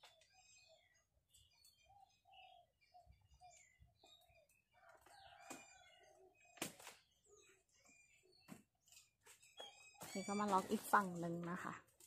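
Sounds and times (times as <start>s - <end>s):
higher bird chirps: 0.0s - 11.0s
birds calling: 0.0s - 12.0s.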